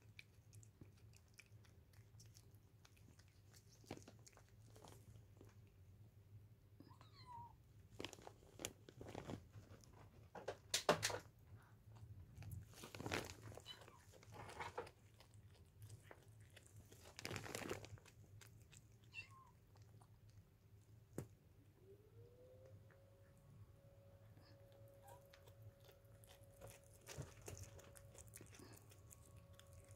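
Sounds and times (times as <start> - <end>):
cat chewing and crunching: 0.0 - 6.4, 7.8 - 21.4, 22.7 - 29.9.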